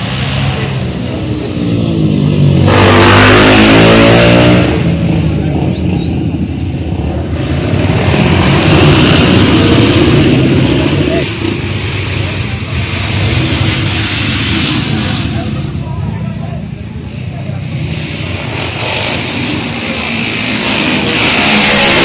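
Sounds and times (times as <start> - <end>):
vehicle engines revving: 0.0 - 22.0.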